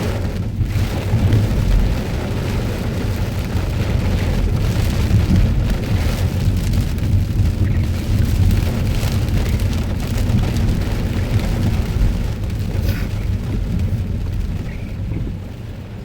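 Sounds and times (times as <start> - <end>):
deep rumble: 0.0 - 16.0
heavy rain pouring: 0.0 - 16.0
strong wind: 0.0 - 16.0.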